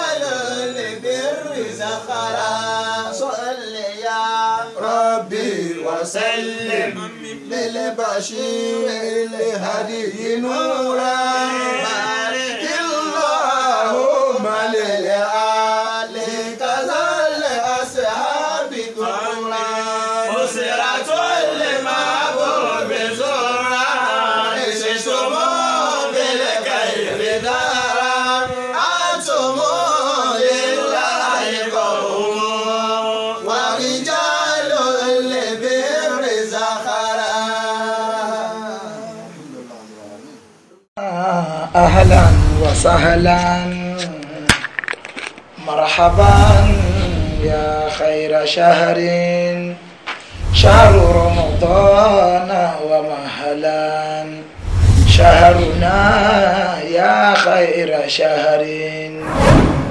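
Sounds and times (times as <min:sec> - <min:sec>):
man singing devotional chant: 0:00.0 - 0:44.6, 0:45.5 - 0:59.4.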